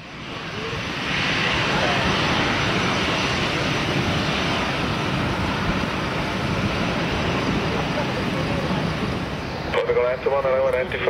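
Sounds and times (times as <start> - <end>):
jet engines at takeoff thrust: 0.0 - 11.0.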